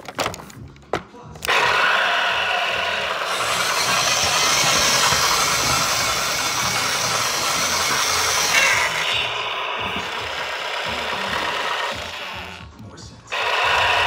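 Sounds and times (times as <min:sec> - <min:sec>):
toy engine rumble sound effect: 0:01.5 - 0:14.0
toy motor and gears whirring: 0:01.5 - 0:14.0.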